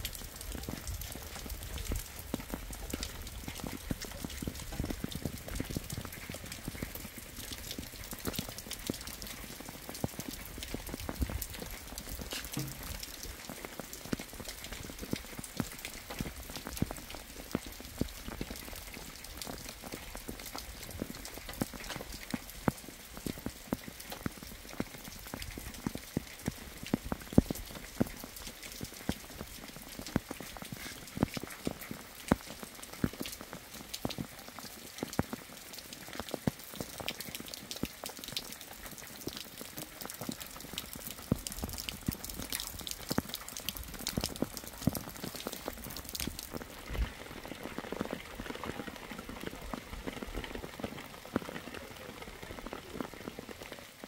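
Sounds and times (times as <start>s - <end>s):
rain drops ticking: 0.0s - 54.0s
rain hiss: 0.0s - 54.0s.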